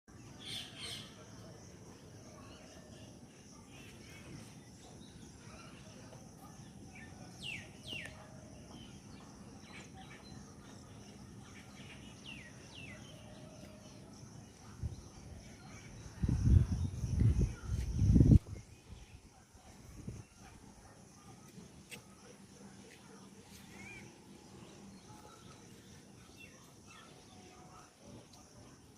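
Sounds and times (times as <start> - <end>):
birds chirping: 0.1 - 28.9.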